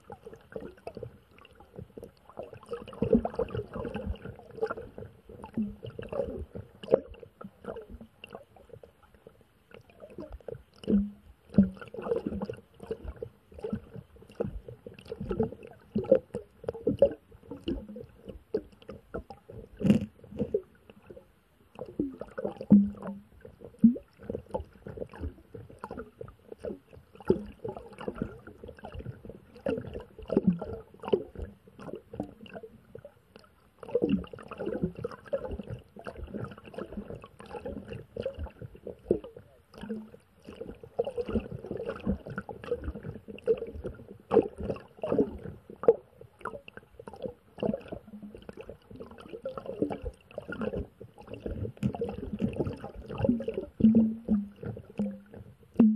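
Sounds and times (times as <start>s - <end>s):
muffled underwater gurgling and knocking: 0.0s - 9.0s, 9.9s - 33.2s, 33.8s - 55.9s.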